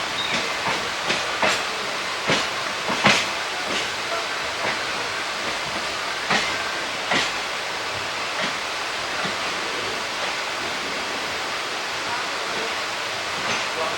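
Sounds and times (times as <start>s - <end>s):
wheels clacking over rail joints: 0.0s - 11.2s, 12.0s - 13.9s
train coach rushing noise: 0.0s - 13.9s.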